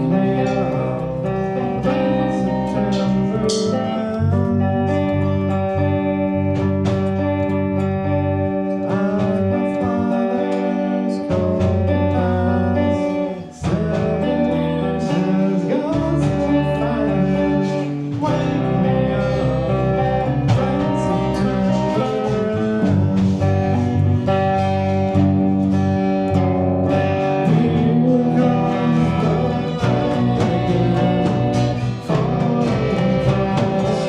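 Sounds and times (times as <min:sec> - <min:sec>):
guitar music plucked and strummed: 0:00.0 - 0:34.0.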